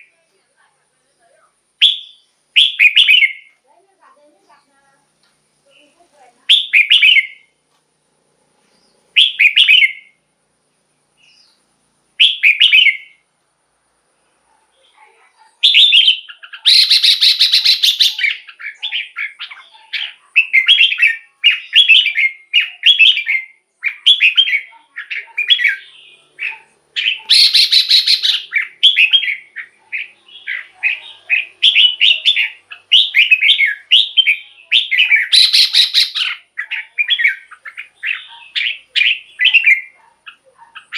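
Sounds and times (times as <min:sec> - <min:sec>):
bird chirping: 0:01.1 - 0:03.6, 0:05.7 - 0:07.6, 0:08.6 - 0:10.2, 0:11.1 - 0:13.2, 0:14.2 - 0:40.9.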